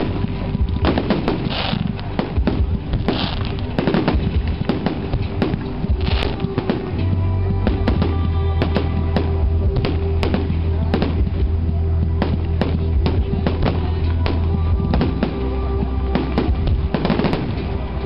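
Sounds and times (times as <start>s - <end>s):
firework bangs and crackling: 0.0s - 18.0s
music playing: 0.0s - 18.0s.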